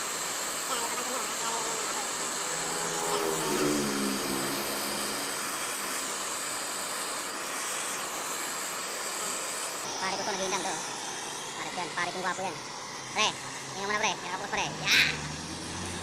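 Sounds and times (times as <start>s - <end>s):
welding torch flame hissing: 0.0s - 2.6s, 5.2s - 16.0s.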